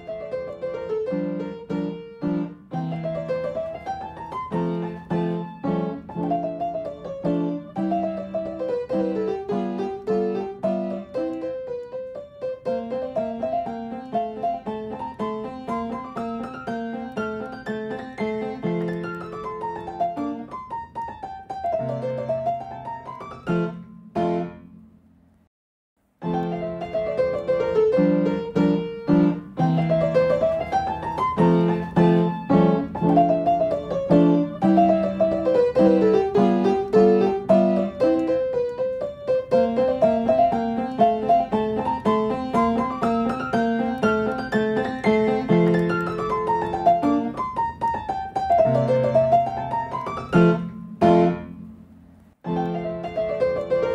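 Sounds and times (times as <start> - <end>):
piano music: 0.0 - 25.2, 26.0 - 53.9.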